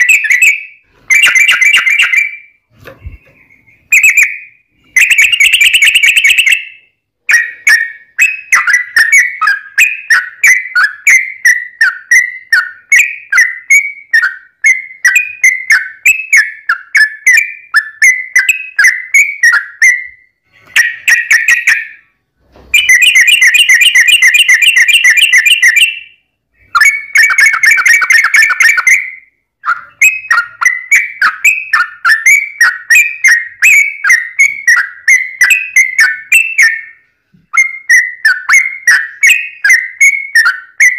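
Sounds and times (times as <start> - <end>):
bird whistled chattering song: 0.0 - 22.1, 22.7 - 40.9.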